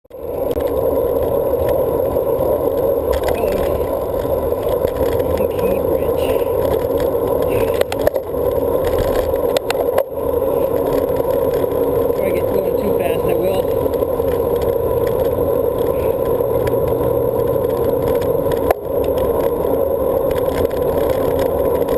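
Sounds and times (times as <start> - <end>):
muffled wind and road noise: 0.1 - 21.9.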